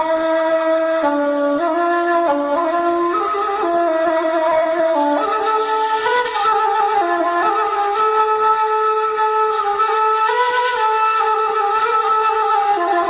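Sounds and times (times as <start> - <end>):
woodwind melody: 0.0 - 13.0.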